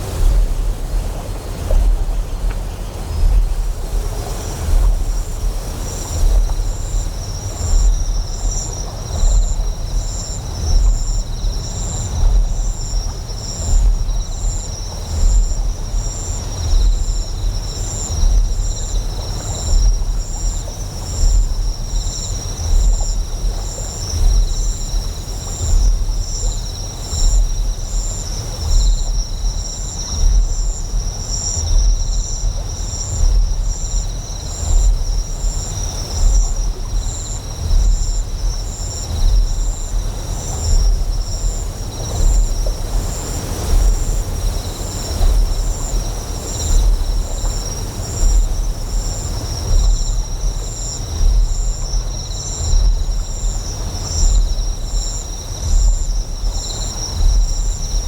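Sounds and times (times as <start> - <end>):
deep throbbing generator hum: 0.0 - 58.0.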